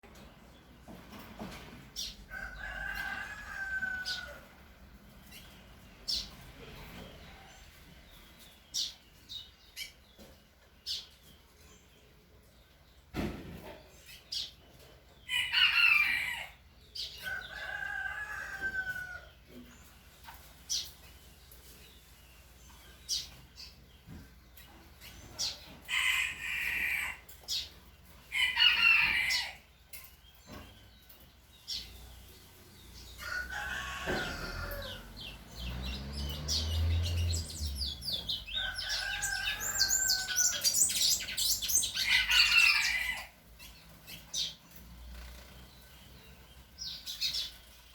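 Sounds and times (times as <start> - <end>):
cage birds singing: 0.0 - 47.9.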